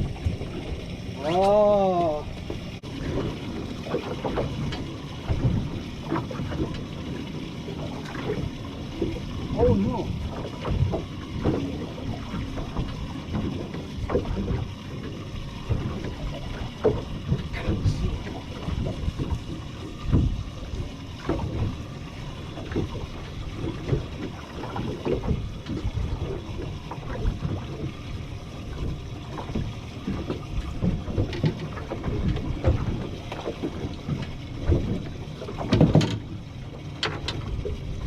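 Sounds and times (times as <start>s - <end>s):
water slapping against boat hull: 0.0s - 38.0s.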